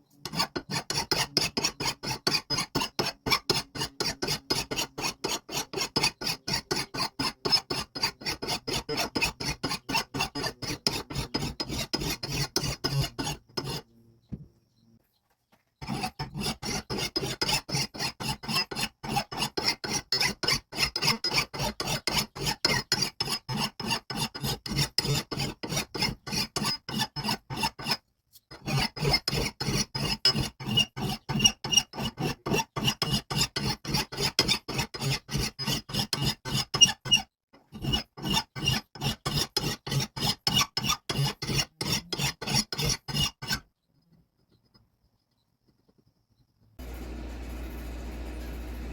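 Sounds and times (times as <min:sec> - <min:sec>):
hand rasping: 0:00.2 - 0:13.9, 0:15.8 - 0:43.6.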